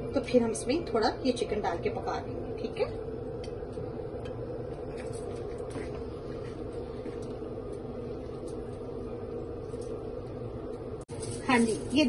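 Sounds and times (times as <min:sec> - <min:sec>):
low mechanical hum and rumble: 0:00.0 - 0:12.0.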